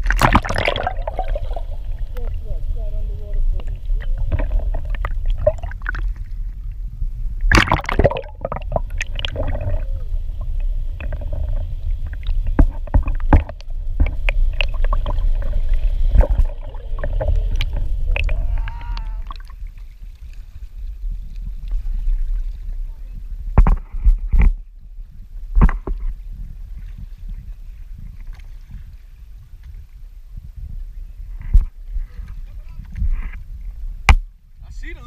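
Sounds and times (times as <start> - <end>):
water sloshing against kayak: 0.0 - 34.2
wind rumbling on microphone: 0.0 - 35.0.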